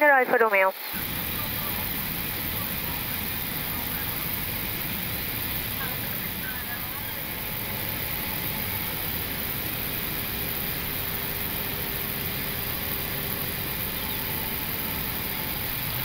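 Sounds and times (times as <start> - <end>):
cockpit ventilation and engine hiss: 0.0 - 16.0
faint steady hum: 0.0 - 16.0.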